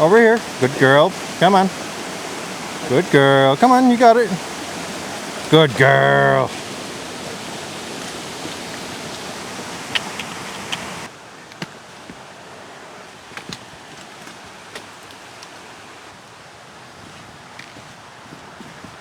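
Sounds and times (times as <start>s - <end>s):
rushing stream water: 0.0s - 19.0s.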